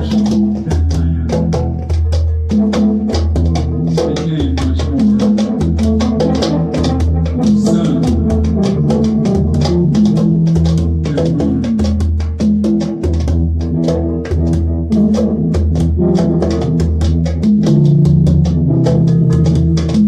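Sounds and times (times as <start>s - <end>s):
instrumental band music: 0.0s - 20.0s.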